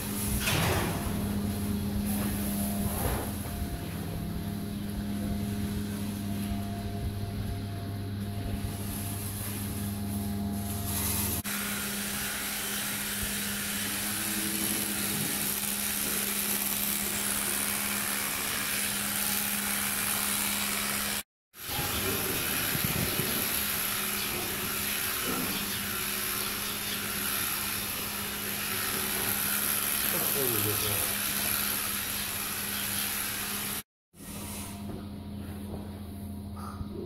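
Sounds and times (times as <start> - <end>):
electric clippers humming: 0.0 - 33.8.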